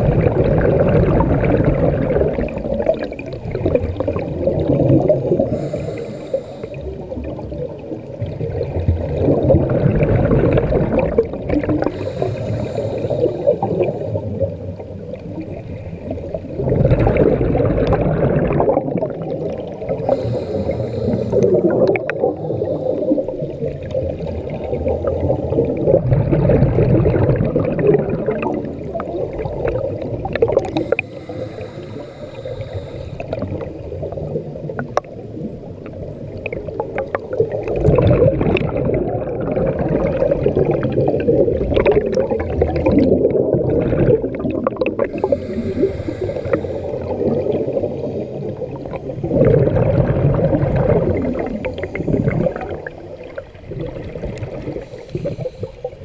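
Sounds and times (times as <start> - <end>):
exhaled bubbles gurgling underwater: 0.0 - 56.0.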